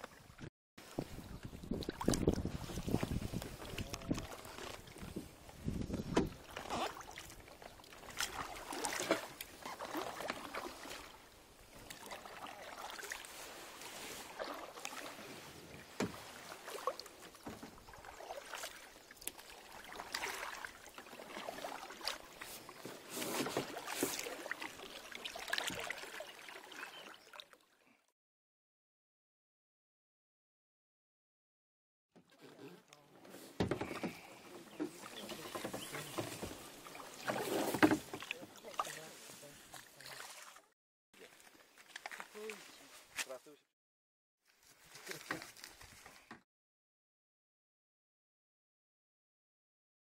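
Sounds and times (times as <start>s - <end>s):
paddles splashing through water: 0.0s - 28.0s, 32.2s - 43.5s, 44.5s - 46.3s.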